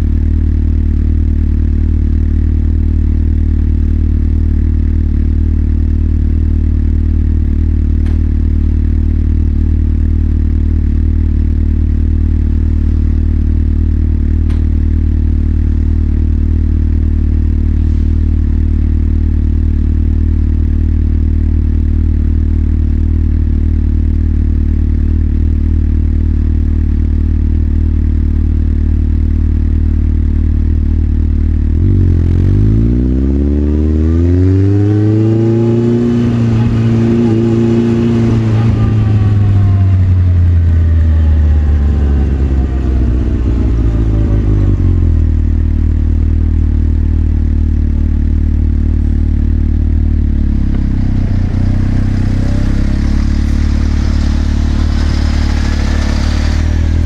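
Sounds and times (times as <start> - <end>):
motorcycle engine idling: 0.0 - 32.4, 35.7 - 57.0.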